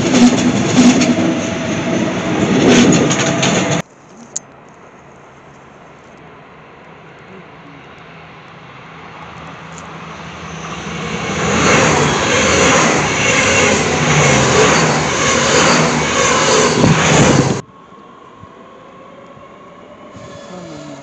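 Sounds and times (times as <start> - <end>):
train passing close by: 0.0 - 3.9, 6.3 - 21.0.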